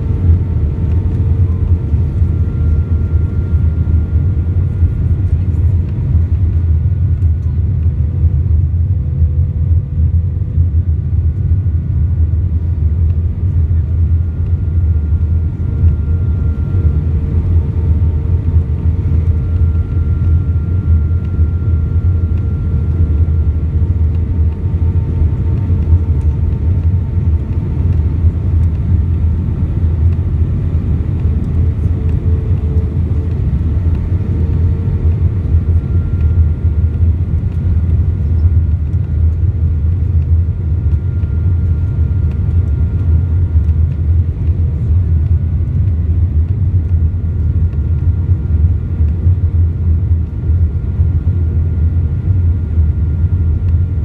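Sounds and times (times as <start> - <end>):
airliner cabin rumble: 0.0 - 54.0
faint engine tones: 0.0 - 54.0.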